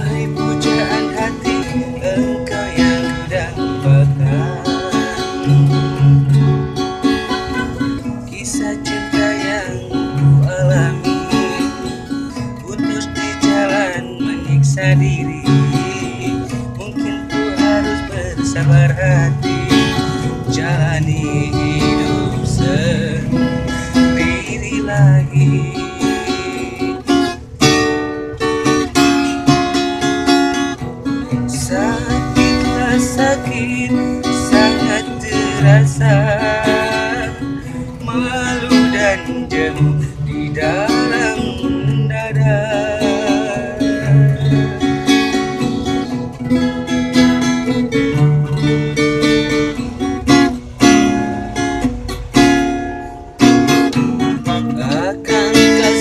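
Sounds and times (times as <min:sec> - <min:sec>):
guitar strumming chords: 0:00.0 - 0:56.0.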